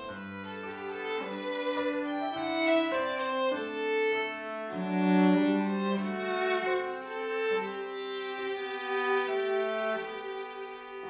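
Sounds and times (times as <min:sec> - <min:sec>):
bowed strings music: 0:00.0 - 0:11.0.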